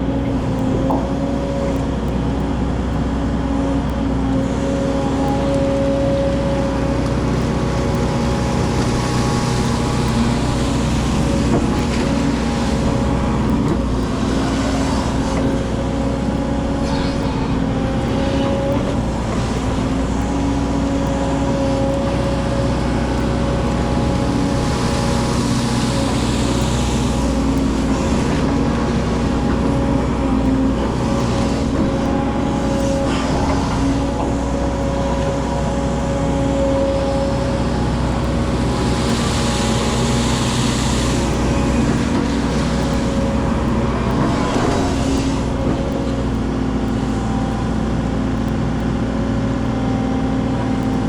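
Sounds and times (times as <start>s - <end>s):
excavator diesel engine droning: 0.0s - 51.0s.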